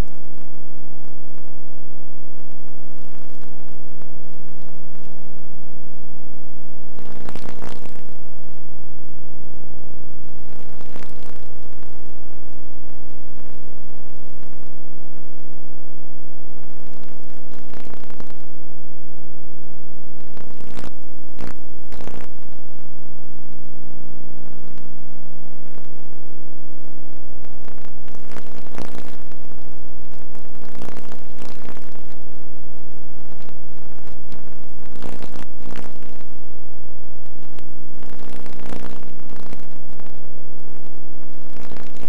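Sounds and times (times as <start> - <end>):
electrical buzz: 0.0 - 42.0
noise crackles: 0.0 - 42.0.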